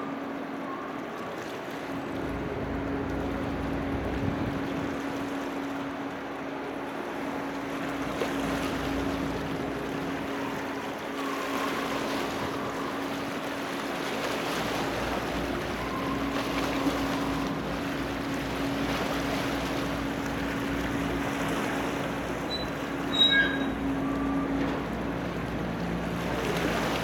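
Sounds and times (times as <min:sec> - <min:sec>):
ship engines humming: 0:00.0 - 0:27.0.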